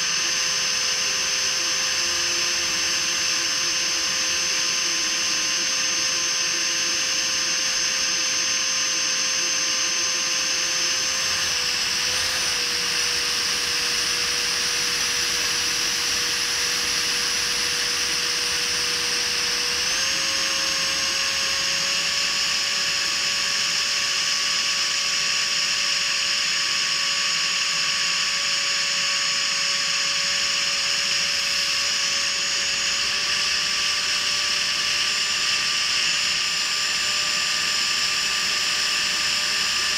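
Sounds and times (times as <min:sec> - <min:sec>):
electric ducted fan whining: 0:00.0 - 0:39.9.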